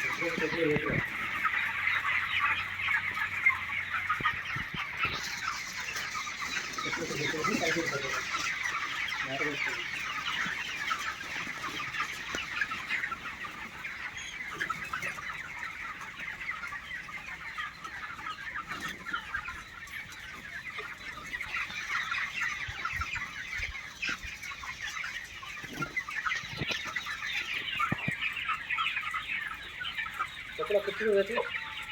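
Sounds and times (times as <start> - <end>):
flock of chickens calling: 0.0 - 31.9.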